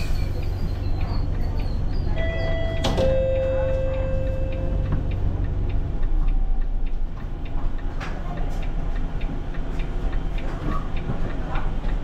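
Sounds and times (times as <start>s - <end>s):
bus diesel engine idling: 0.0s - 12.0s
indicator relay ticking: 1.0s - 12.0s.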